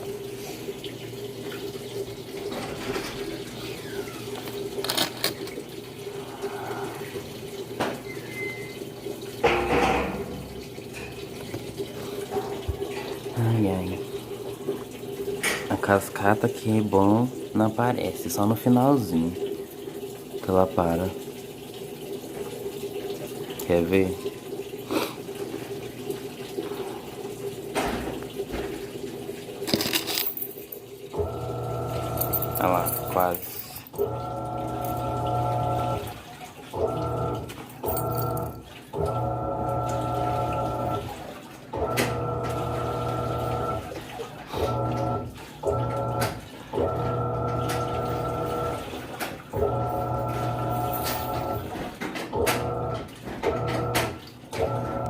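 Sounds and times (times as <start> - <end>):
water running into drum: 0.0 - 55.0.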